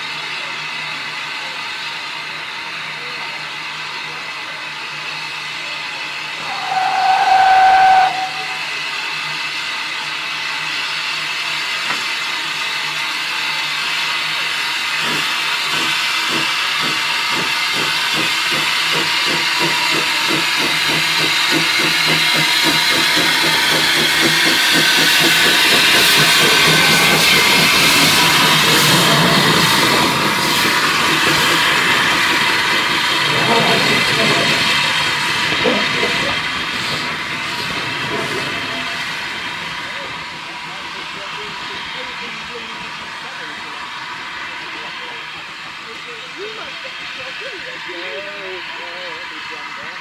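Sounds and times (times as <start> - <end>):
steam locomotive exhaust chuffs: 0.2 - 50.0
steam hissing: 6.1 - 9.3, 11.2 - 50.0.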